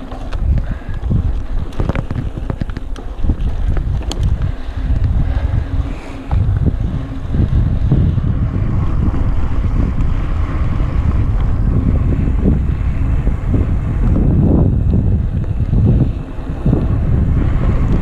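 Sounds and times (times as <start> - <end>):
bike rolling on dirt: 0.0 - 18.0
wind buffeting microphone: 0.0 - 18.0.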